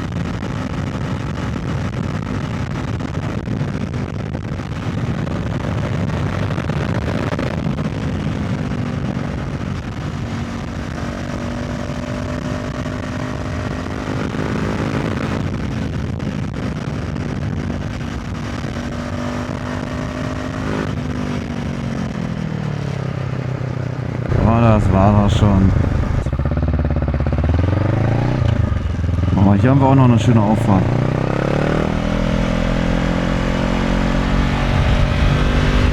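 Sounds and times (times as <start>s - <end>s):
wind noise on microphone: 0.0s - 29.7s, 30.6s - 35.9s
motorcycle engine running: 0.0s - 35.9s.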